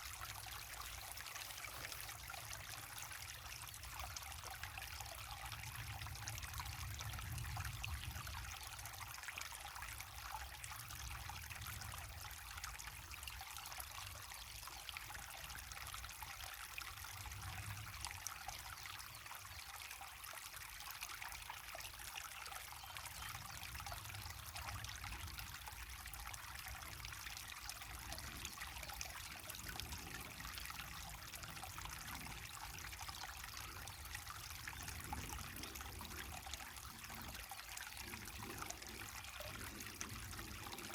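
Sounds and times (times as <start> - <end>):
water pouring over waterfall: 0.0 - 40.9.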